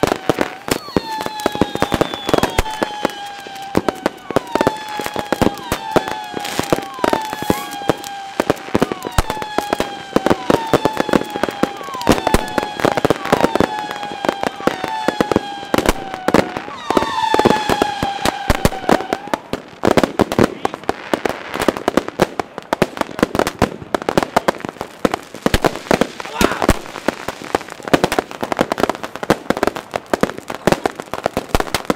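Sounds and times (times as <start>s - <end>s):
fireworks bangs and crackling: 0.0s - 31.9s
whistling firework: 0.0s - 31.9s.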